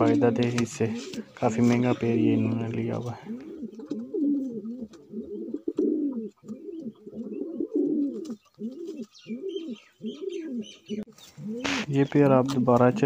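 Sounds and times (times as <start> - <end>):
pigeon cooing: 0.0 - 12.7.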